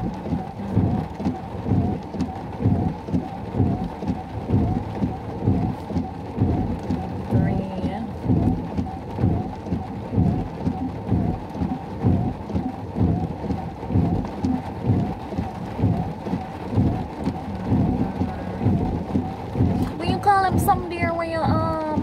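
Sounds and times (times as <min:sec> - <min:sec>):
heavy rain on a car roof: 0:00.0 - 0:22.0.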